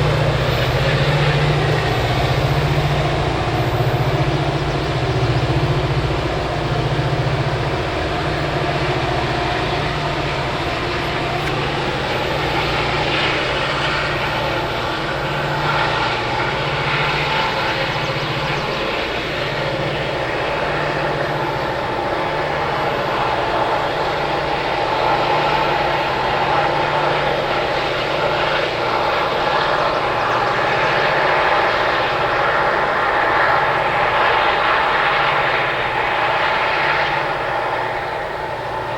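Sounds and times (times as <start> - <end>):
diesel locomotives droning: 0.0 - 38.9.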